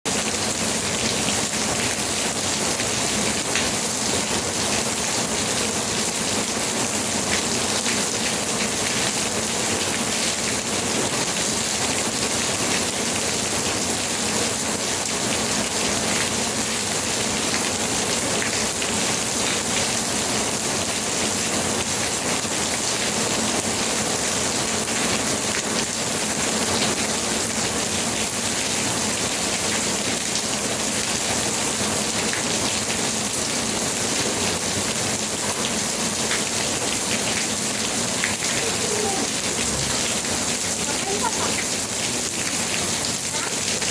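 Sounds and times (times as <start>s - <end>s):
raindrops pattering on a surface: 0.1s - 43.9s
steady rainfall hissing: 0.3s - 43.9s.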